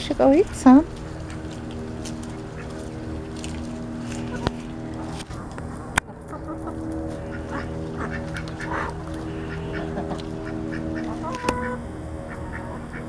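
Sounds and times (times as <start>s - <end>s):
ducks quacking: 0.0s - 13.0s
poultry calling: 0.0s - 13.0s
steady low hum: 0.0s - 13.0s.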